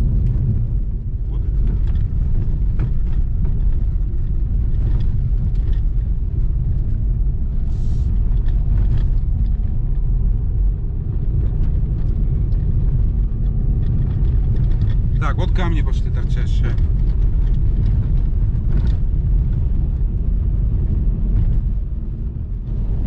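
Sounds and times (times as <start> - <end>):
tyres rumbling on dirt road: 0.0 - 23.0.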